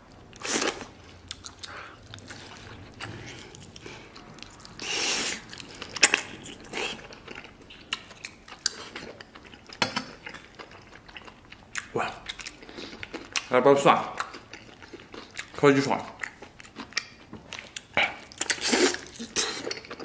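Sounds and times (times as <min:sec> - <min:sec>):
man chewing with wet smacks: 0:00.0 - 0:20.0.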